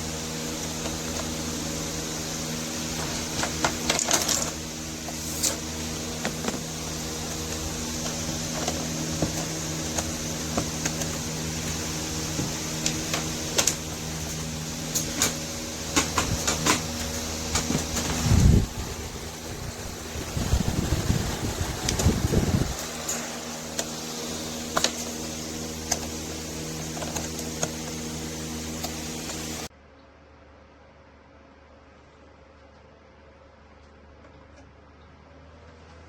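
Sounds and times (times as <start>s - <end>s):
desk fan motor hum: 0.0s - 29.8s.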